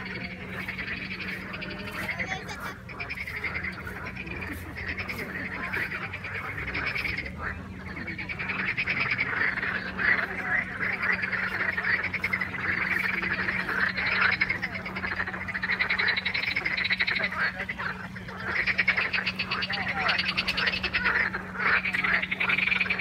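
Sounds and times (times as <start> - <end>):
chorus of frogs croaking: 0.0 - 23.0.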